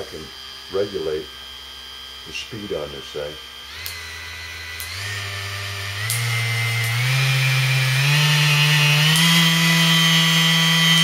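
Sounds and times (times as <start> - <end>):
palm sander whine: 0.0 - 11.0.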